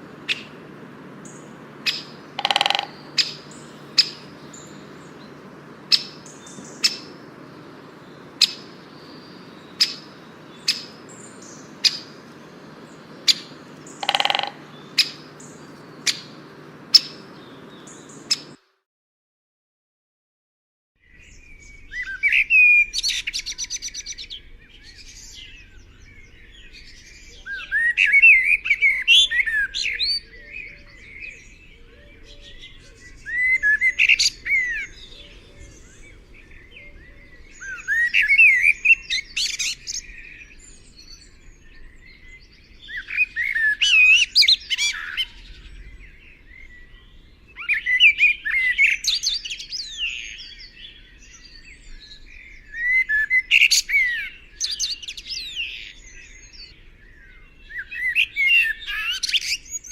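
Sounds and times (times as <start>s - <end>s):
songbird chirps and whistles: 1.2s - 18.6s, 21.0s - 59.9s.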